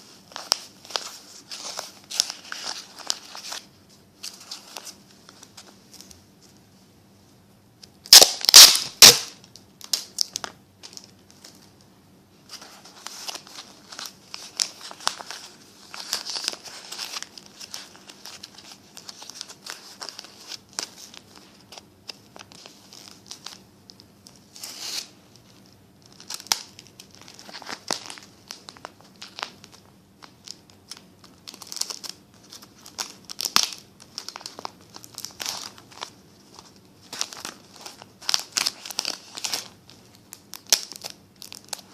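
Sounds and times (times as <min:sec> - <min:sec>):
paper crinkling and rustling: 0:00.0 - 0:06.6, 0:12.4 - 0:41.9.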